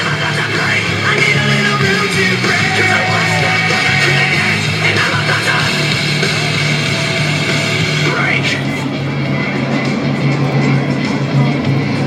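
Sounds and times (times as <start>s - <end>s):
rock music with heavy bass: 0.0s - 12.0s.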